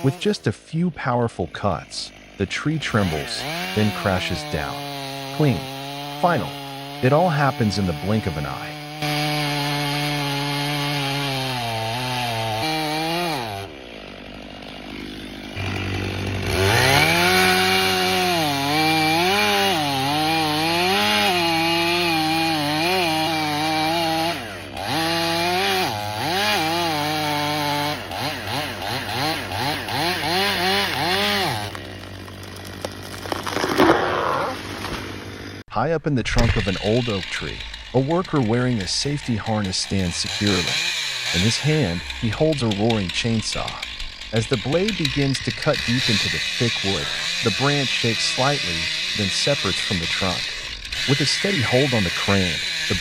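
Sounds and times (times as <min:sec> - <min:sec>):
chainsaw engine revving: 0:00.0 - 0:35.6, 0:36.3 - 0:53.0.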